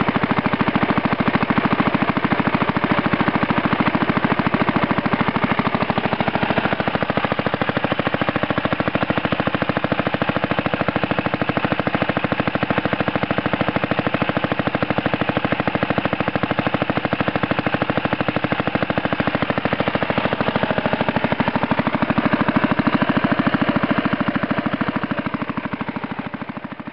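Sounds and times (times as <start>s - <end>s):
small petrol engine running: 0.0s - 26.9s.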